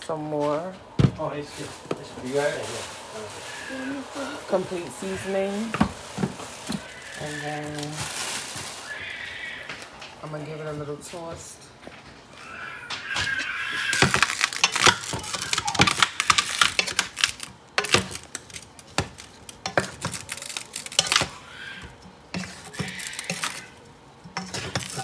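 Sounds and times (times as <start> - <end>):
broccoli florets rustling: 0.1 - 25.0.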